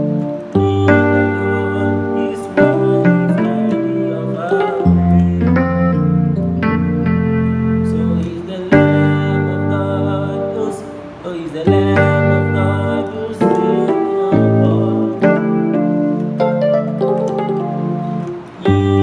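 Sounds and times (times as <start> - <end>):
keyboard playing gospel chords: 0.0 - 19.0.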